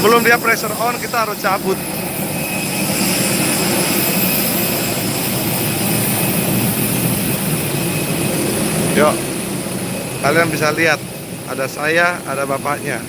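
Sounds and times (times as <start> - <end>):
aircraft turbine whine: 0.0 - 13.0.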